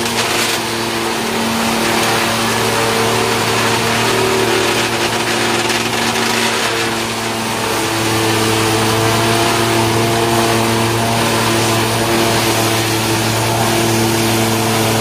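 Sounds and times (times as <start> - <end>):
wood crusher grinding: 0.0 - 15.0.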